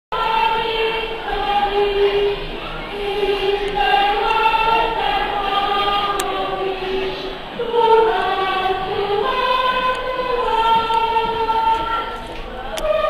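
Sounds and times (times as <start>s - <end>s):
children's choir singing: 0.1s - 13.0s.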